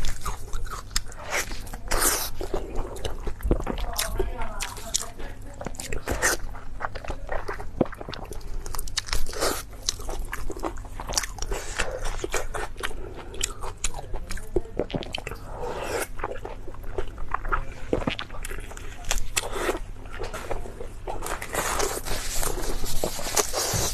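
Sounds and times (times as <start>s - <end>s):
person crunching and chewing food: 0.0s - 23.9s.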